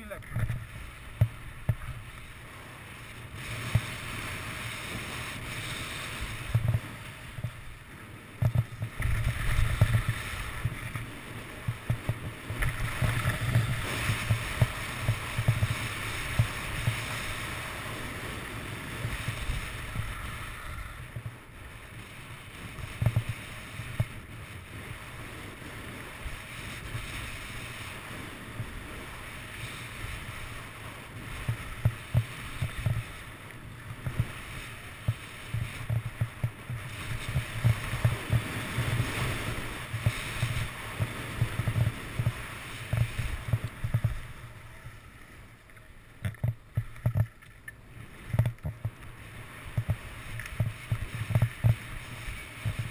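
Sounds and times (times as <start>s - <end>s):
wind buffeting microphone: 0.0s - 45.0s, 46.2s - 52.9s
skis scraping over snow: 0.0s - 52.9s.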